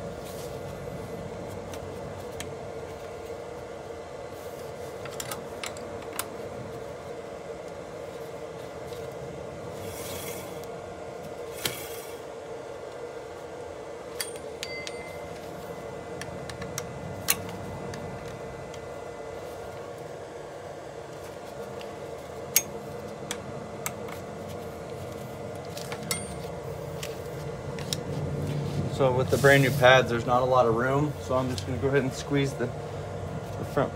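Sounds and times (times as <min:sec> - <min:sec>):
steady background hum: 0:00.0 - 0:33.9.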